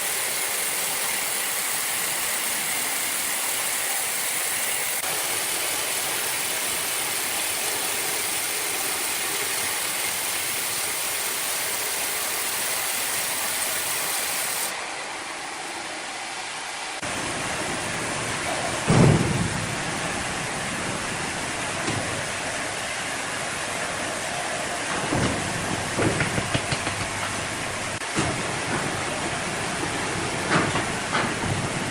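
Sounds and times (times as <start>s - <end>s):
sawmill machinery running: 0.0s - 31.9s.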